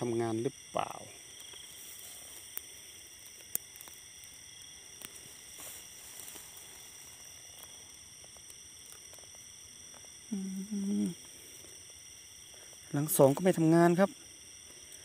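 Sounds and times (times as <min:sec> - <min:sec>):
crickets chorus: 0:00.0 - 0:15.0.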